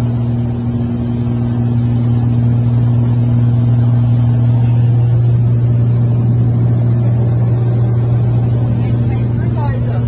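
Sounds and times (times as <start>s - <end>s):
small plane engine droning: 0.0s - 10.0s.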